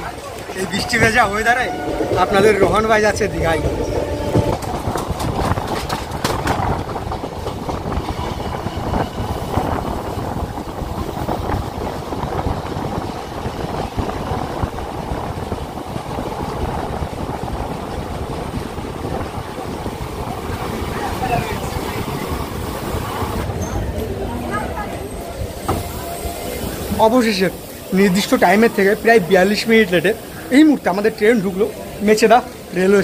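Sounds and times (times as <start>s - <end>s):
train rumbling and rattling on track: 0.0s - 33.0s.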